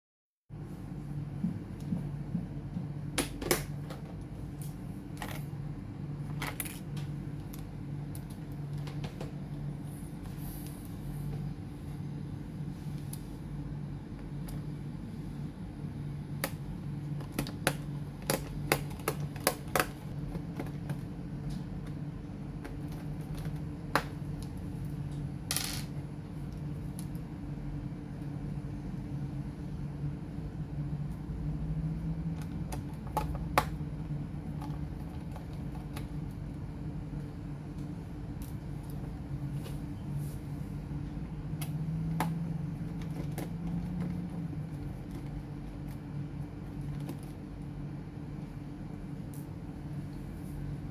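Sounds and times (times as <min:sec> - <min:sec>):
steady low hum: 0:00.5 - 0:50.9.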